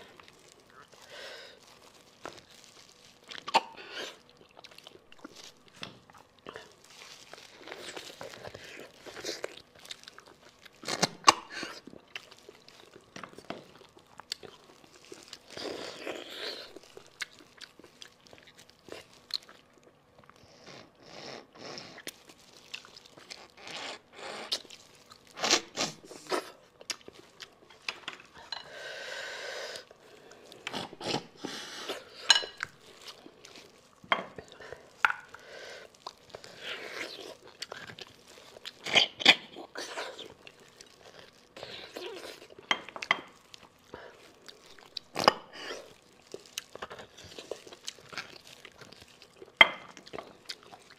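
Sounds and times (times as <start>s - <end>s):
teeth crunching on bone: 0.0s - 20.4s, 22.0s - 28.4s, 32.2s - 50.9s.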